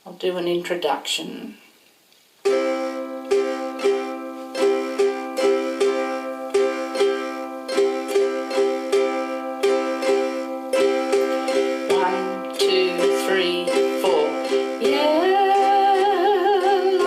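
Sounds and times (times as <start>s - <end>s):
ukulele strumming: 2.4s - 17.0s.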